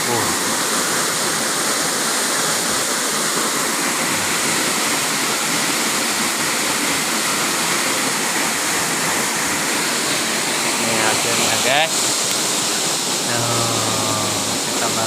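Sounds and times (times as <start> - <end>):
fast-flowing river water rushing: 0.0 - 15.0.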